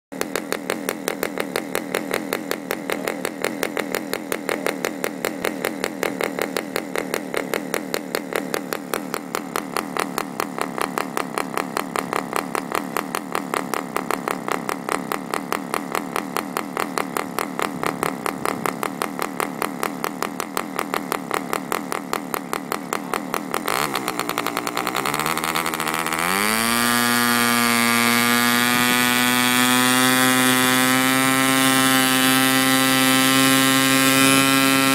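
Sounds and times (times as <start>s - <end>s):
model aircraft engine revving: 0.1s - 34.9s.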